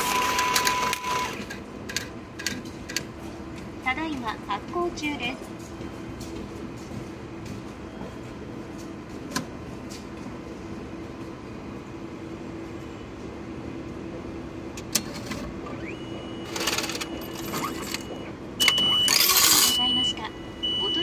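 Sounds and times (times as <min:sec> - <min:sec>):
steady low hum: 0:01.5 - 0:21.0.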